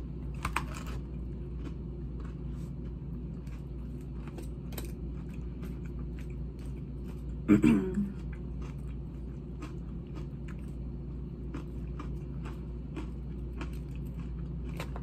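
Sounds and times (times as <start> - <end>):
air conditioner humming: 0.0 - 15.0
chewing crunchy salad: 0.0 - 15.0.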